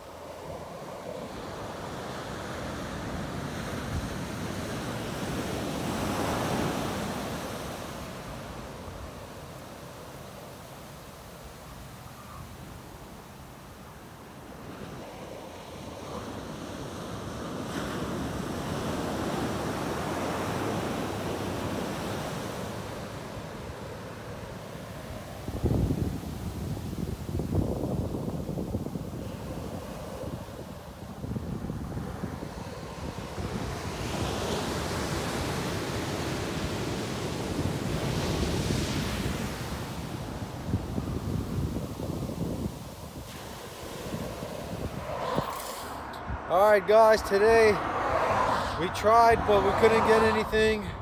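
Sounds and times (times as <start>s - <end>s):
ocean surf breaking on sand: 0.0s - 51.0s.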